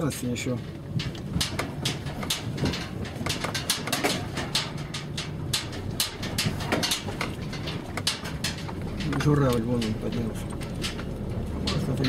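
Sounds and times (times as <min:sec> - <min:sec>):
car engine humming: 0:00.0 - 0:12.0
car knocking and rattling: 0:00.0 - 0:12.0.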